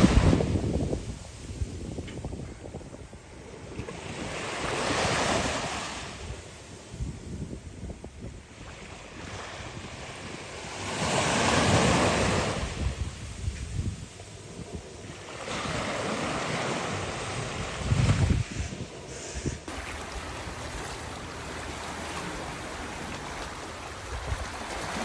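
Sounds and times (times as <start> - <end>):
ocean waves breaking: 0.0 - 7.2, 8.3 - 25.0
wind buffeting microphone: 0.0 - 25.0.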